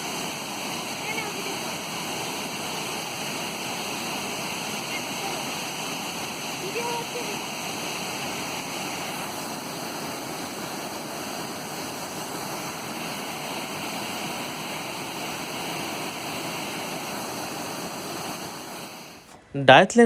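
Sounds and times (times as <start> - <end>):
waterfall rushing: 0.0 - 19.4.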